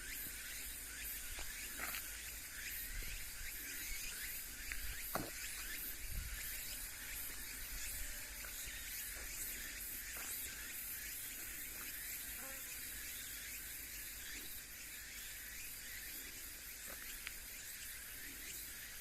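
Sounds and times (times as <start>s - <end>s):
insects buzzing and chirping: 0.0s - 19.0s.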